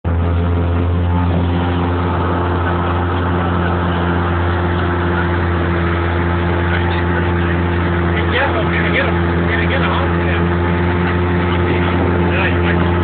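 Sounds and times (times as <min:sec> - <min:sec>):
snowplow engine drone: 0:00.0 - 0:13.0.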